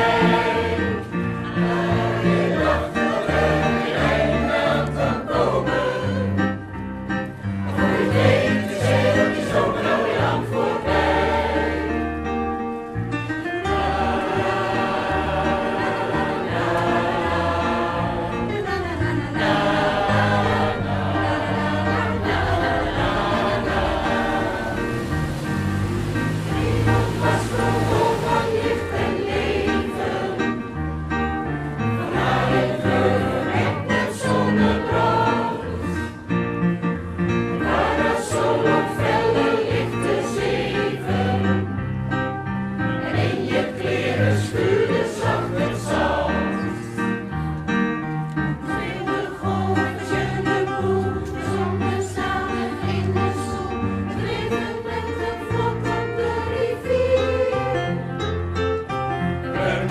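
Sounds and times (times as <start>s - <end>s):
choir singing: 0.0s - 47.8s, 48.5s - 58.4s, 59.1s - 59.9s
instrumental accompaniment: 0.0s - 59.9s.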